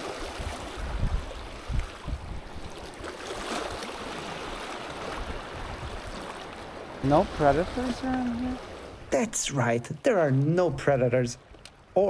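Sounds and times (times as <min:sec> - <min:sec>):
waves lapping over rocks: 0:00.0 - 0:11.7.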